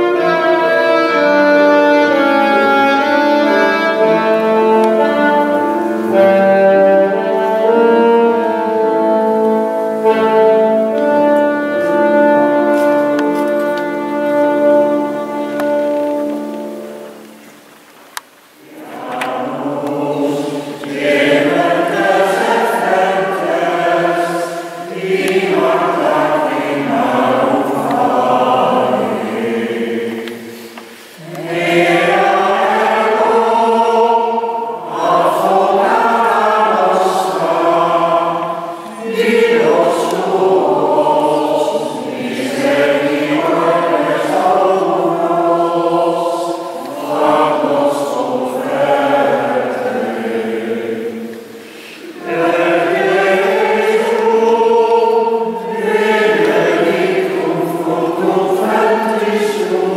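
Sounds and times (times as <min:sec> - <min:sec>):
choir singing: 0:00.0 - 0:17.7, 0:18.6 - 0:59.9.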